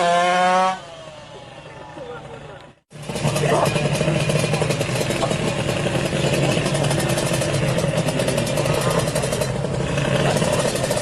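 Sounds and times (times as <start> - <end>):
two-stroke engine idling: 1.2 - 11.0.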